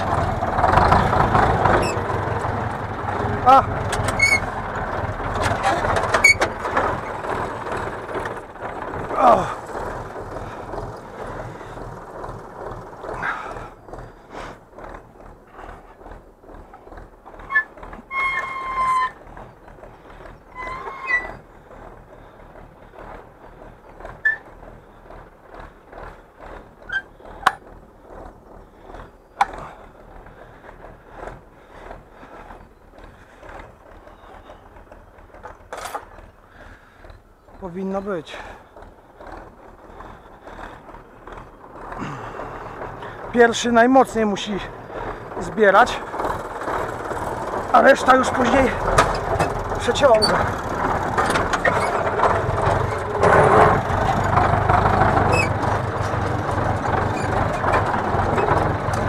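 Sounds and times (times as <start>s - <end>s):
metallic clanks and rattles: 0.0s - 59.0s
tractor engine running: 0.0s - 59.0s.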